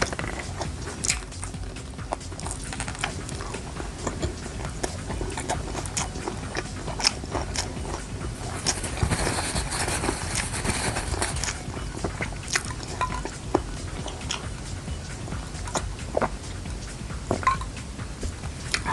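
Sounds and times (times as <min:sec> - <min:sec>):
person chewing food: 0:00.0 - 0:18.9.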